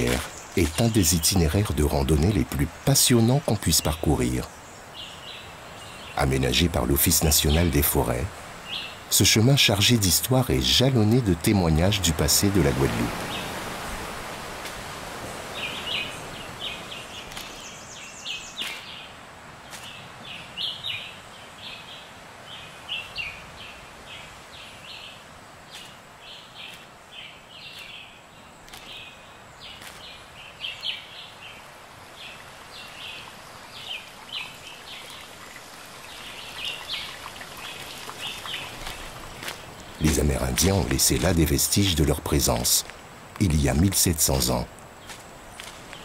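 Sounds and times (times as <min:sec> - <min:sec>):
small birds chirping: 0:00.0 - 0:13.7, 0:15.4 - 0:46.0
outdoor background hiss: 0:00.0 - 0:46.0.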